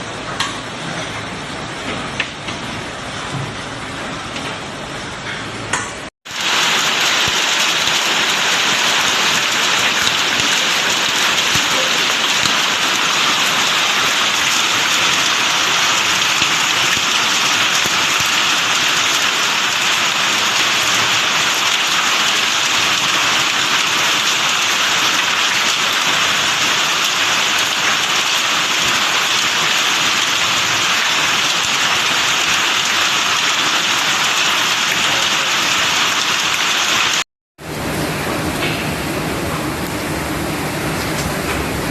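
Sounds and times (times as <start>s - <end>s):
heavy rain pouring: 6.3s - 41.9s.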